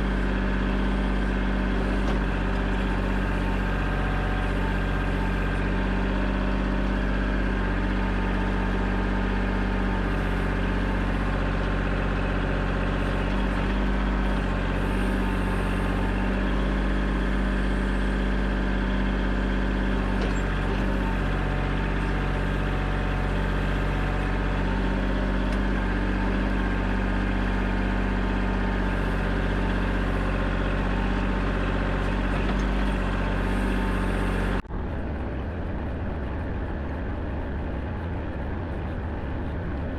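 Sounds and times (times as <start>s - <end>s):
digger engine droning: 0.0s - 39.9s.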